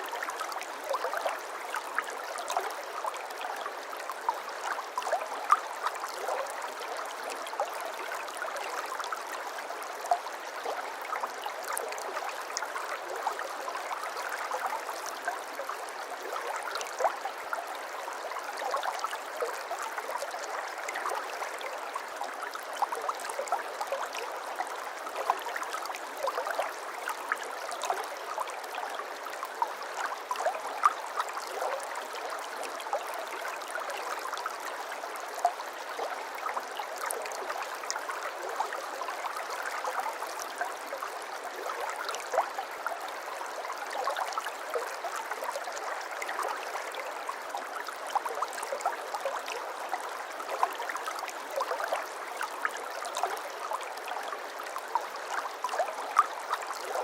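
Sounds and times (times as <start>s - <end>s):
small stream babbling: 0.0s - 57.0s.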